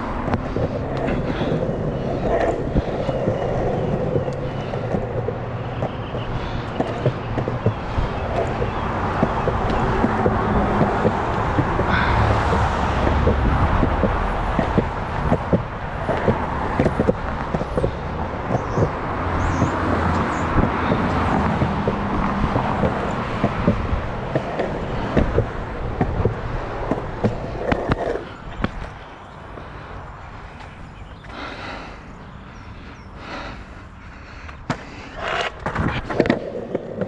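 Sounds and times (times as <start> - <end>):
longboard wheels rolling on concrete: 0.0 - 37.0
wheels clacking over pavement joints: 0.0 - 37.0.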